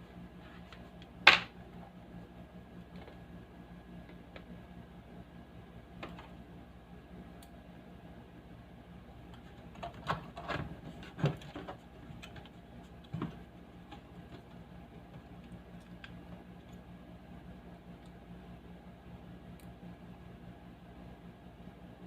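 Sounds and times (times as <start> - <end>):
speaker electrical hum: 0.0 - 22.0.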